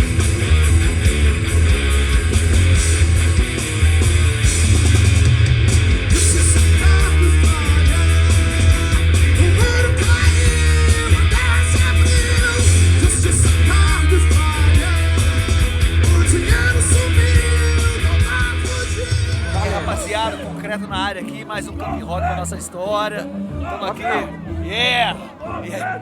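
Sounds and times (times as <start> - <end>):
punk rock band playing: 0.0 - 25.8.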